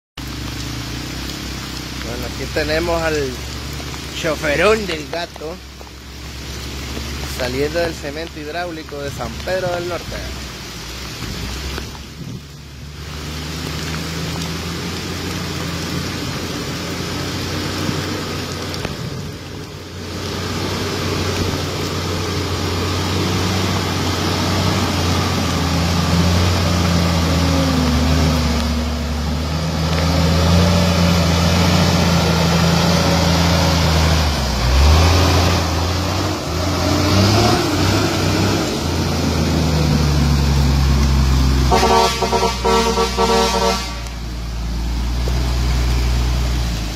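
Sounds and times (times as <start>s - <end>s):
truck engine labouring: 0.2s - 46.9s.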